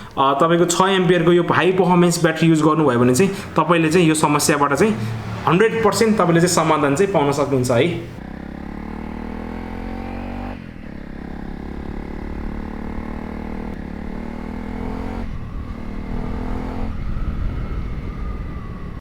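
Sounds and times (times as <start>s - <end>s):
dirt bike engine accelerating: 0.0s - 18.9s.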